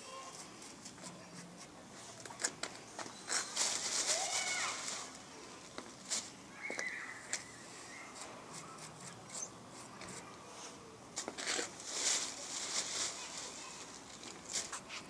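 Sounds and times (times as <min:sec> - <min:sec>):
wood shavings rustling: 0:02.1 - 0:09.2, 0:09.8 - 0:15.0.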